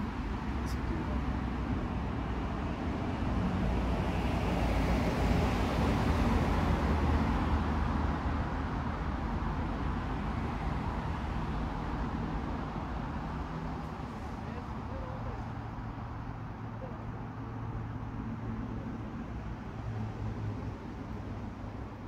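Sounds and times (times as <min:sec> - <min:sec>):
distant road traffic rumble: 0:00.0 - 0:22.0.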